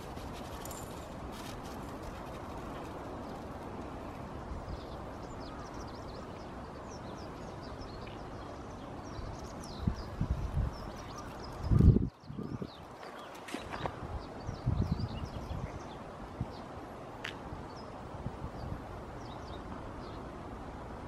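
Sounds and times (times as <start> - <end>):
small birds chirping: 0.0 - 20.3.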